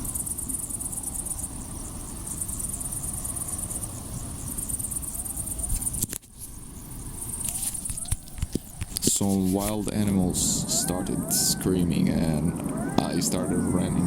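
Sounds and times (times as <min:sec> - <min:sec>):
crickets chirping: 0:00.0 - 0:14.0
faint wavering calls: 0:00.0 - 0:14.0
low rumbling background noise: 0:00.0 - 0:14.0.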